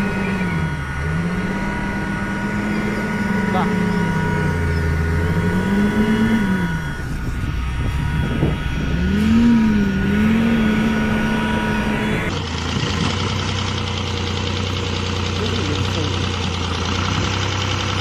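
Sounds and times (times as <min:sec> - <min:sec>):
engine running evenly: 0:00.0 - 0:18.0
tractor engine revving: 0:00.0 - 0:18.0.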